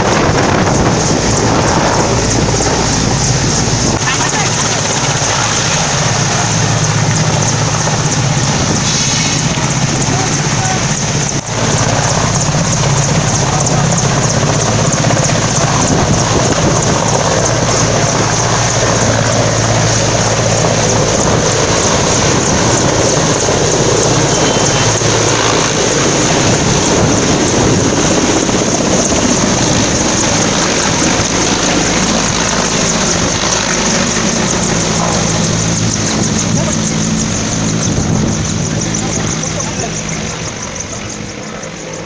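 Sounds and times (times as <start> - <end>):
helicopter rotor noise: 0.0 - 42.0
high turbine whine: 0.0 - 42.0.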